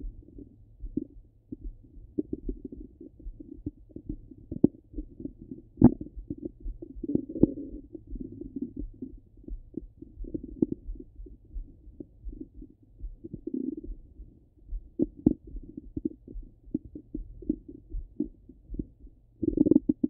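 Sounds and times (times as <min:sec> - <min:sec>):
faint low hum: 0:00.0 - 0:20.0
stomach gurgles and clicks: 0:00.0 - 0:20.0.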